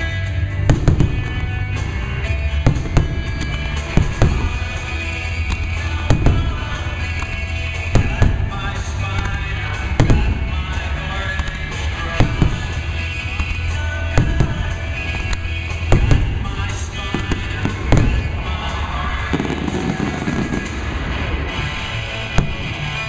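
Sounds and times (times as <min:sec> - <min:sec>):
fireworks bangs: 0:00.0 - 0:23.0
loud music with heavy bass: 0:00.0 - 0:23.0.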